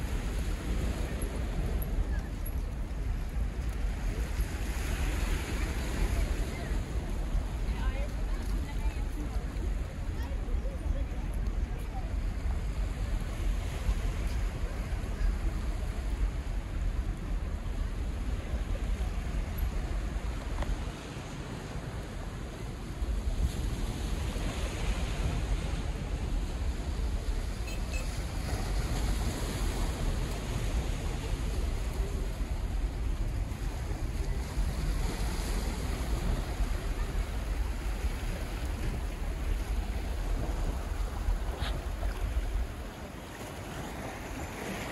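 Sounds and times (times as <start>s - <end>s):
waves washing against rocks: 0.0s - 44.9s
wind buffeting the microphone: 0.0s - 44.9s.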